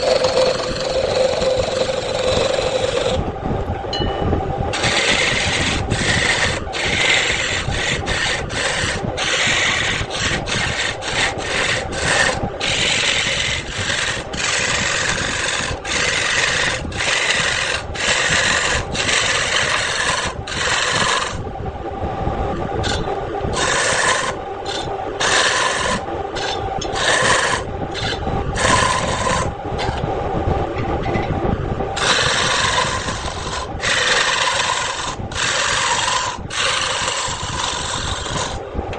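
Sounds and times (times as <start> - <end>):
turning tool scraping wood: 0.0 - 3.3, 4.7 - 21.4, 22.8 - 30.1, 32.0 - 38.7
wood lathe humming: 0.0 - 22.0, 22.7 - 31.2, 31.8 - 38.8.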